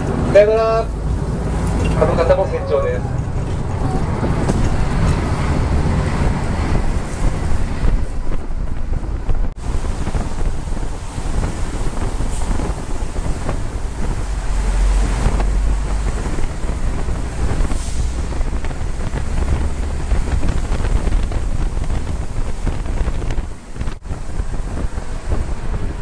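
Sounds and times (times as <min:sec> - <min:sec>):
low rumble of engine and tyres: 0:00.0 - 0:26.0
rushing wind noise: 0:00.0 - 0:26.0.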